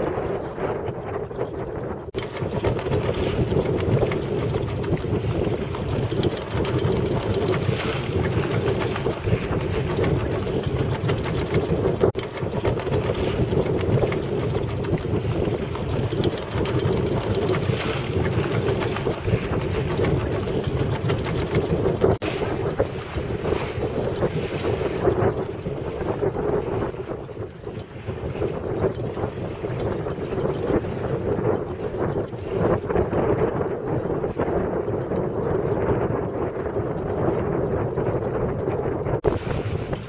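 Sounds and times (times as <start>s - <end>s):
water rushing along hull: 0.0s - 40.0s
wind buffeting microphone: 0.0s - 40.0s.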